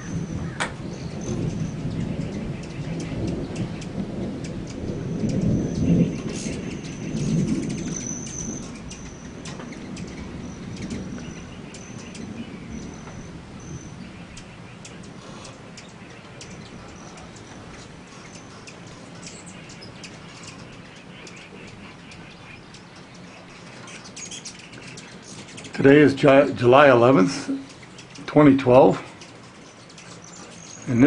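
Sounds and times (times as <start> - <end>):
hummingbirds chattering: 0.0 - 31.0.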